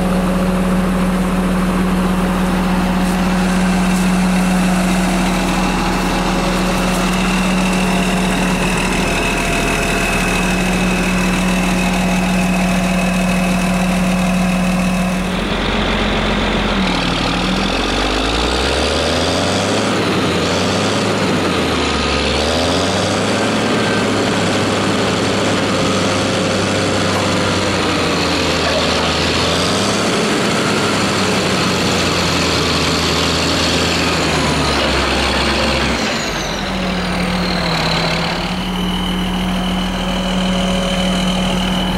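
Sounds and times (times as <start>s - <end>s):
heavy diesel engines under load: 0.0s - 41.9s.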